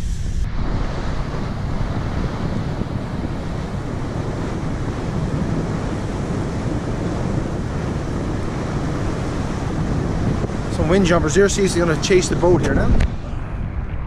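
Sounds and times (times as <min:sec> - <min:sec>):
sea water rushing past boat: 0:00.0 - 0:13.8
wind buffeting microphone: 0:00.0 - 0:14.0.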